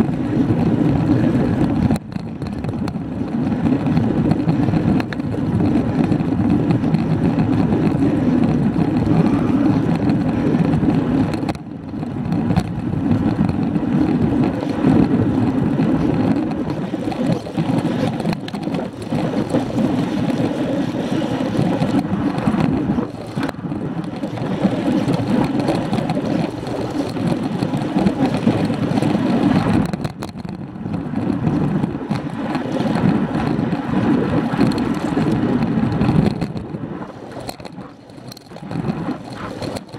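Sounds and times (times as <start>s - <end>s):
tyre noise on asphalt: 0.0s - 39.9s
wind rushing over microphone: 0.0s - 39.9s.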